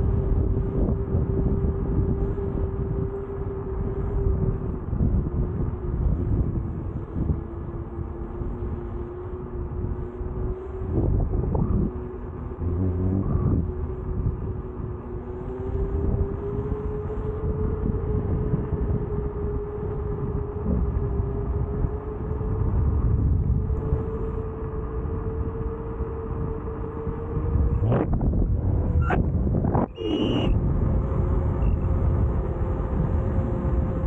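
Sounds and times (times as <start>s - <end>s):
heavy wind: 0.0s - 34.0s
road rumble: 0.0s - 34.0s.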